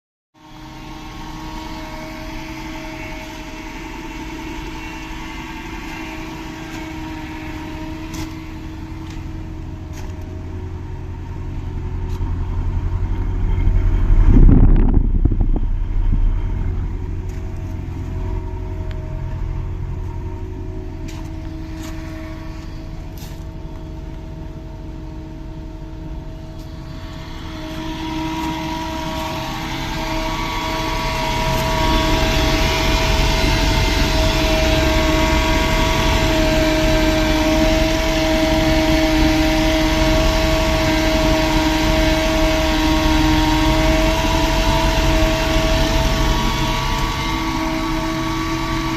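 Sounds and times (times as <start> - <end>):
heat pump engine hum: 0.4 - 48.9.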